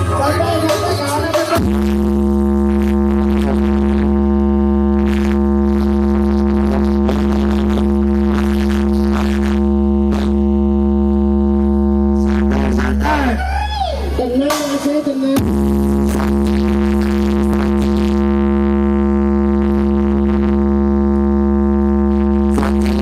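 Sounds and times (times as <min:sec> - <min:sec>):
buzzing synth drone: 0:00.0 - 0:23.0
heavy sub-bass: 0:00.0 - 0:23.0.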